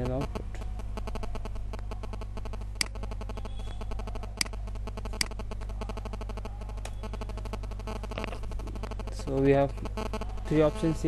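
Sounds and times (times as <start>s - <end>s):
computer clicks: 0.0s - 10.8s
steady low hum: 0.0s - 11.0s.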